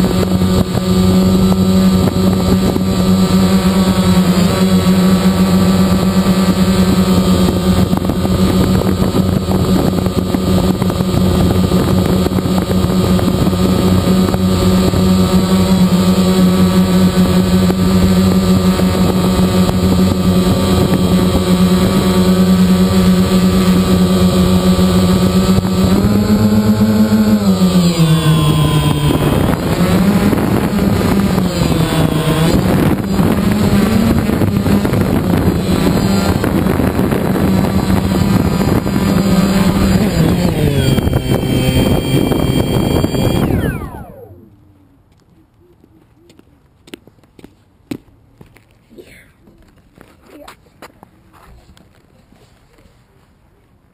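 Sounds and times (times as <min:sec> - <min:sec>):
drone propellers humming: 0:00.0 - 0:45.6.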